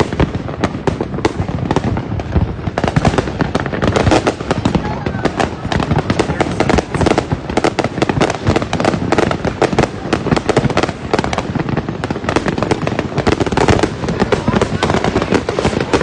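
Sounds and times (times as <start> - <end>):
fireworks and firecracker bangs: 0.0 - 16.0.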